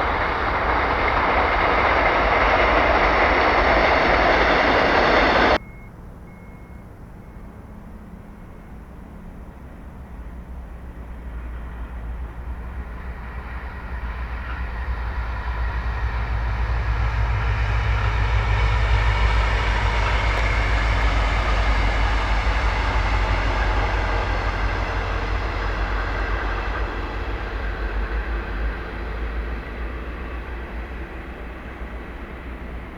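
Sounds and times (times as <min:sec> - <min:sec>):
train rumble and rail noise: 0:00.0 - 0:32.9.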